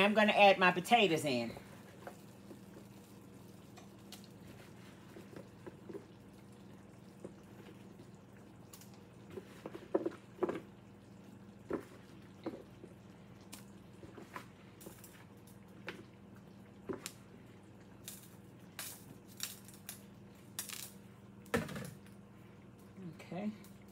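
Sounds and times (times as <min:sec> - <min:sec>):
low steady hum: 0:00.0 - 0:23.9.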